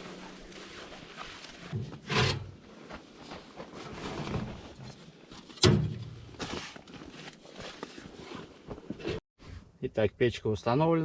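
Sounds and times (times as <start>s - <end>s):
camping gear rustling: 0.0s - 9.2s.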